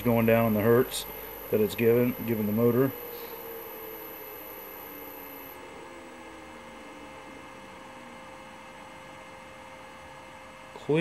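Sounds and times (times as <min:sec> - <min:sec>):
electric motor humming faintly: 0:00.0 - 0:11.0.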